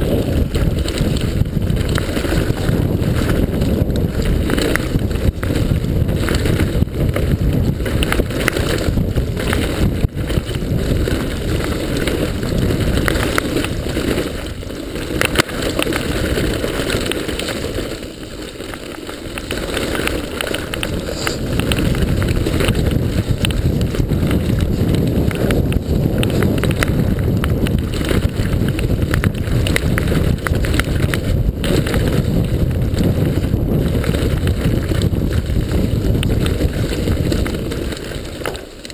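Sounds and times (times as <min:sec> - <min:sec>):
bike frame rattling and knocking: 0:00.0 - 0:38.9
wind buffeting microphone: 0:00.0 - 0:38.9.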